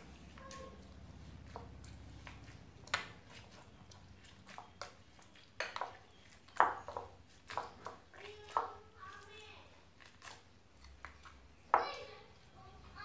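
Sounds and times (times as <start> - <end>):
slime squishing: 0.0 - 12.6.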